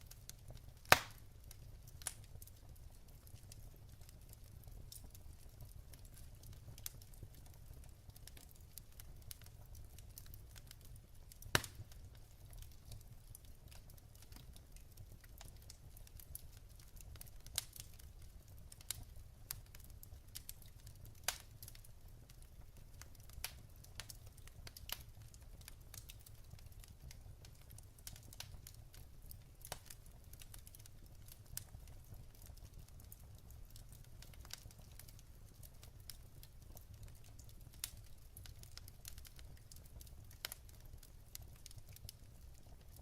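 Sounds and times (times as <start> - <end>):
burning logs crackling and popping: 0.0 - 43.0
low rumble of flames: 0.0 - 43.0.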